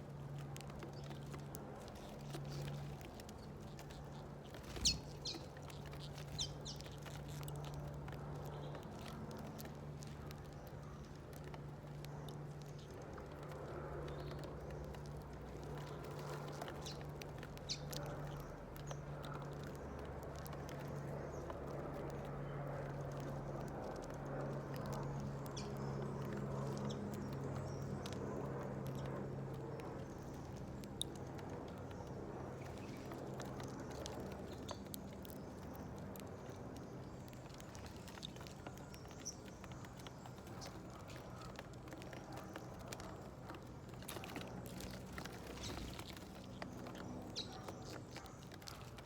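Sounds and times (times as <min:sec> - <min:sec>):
birds pecking at seeds: 0:00.0 - 0:49.0.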